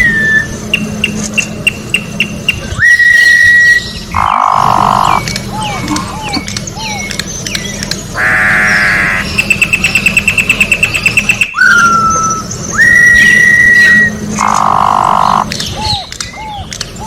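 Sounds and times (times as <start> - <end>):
bird singing varied song: 0.0 - 17.0.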